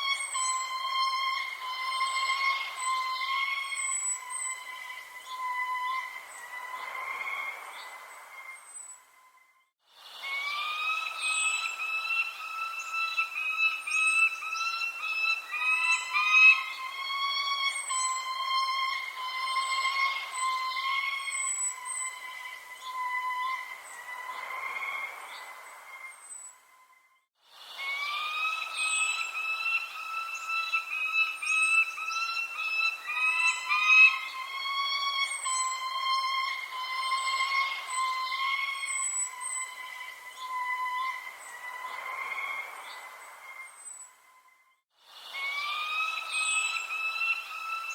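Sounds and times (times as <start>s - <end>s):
high falling bird chirps: 0.0s - 9.1s, 10.3s - 26.6s, 27.7s - 44.2s, 45.4s - 47.9s
chorus of whistled bird calls: 0.0s - 47.9s.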